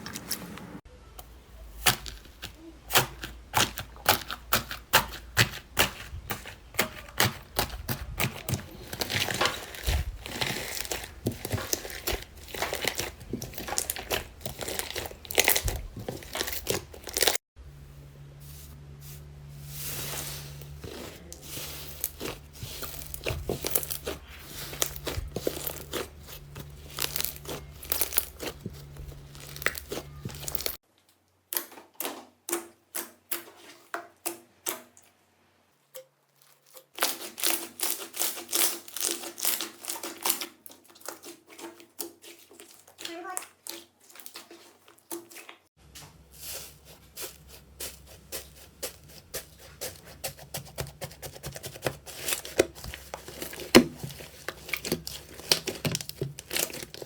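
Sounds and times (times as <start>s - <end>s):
hands squishing slime: 1.6s - 17.4s, 19.8s - 30.8s, 36.4s - 57.0s.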